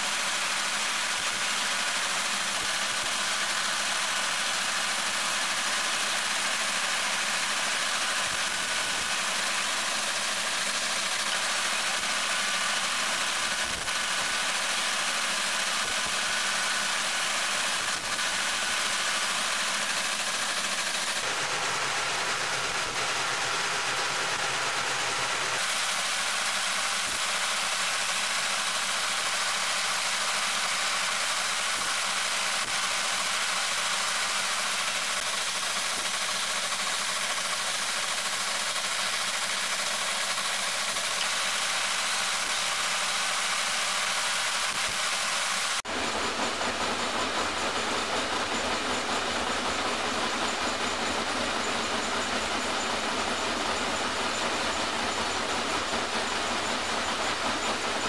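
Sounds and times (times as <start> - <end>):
lathe running: 0.0 - 58.0.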